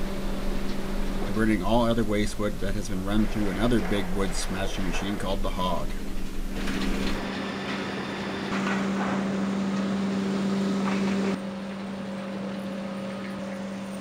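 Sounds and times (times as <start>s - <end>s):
conveyor machinery humming: 0.0s - 14.0s.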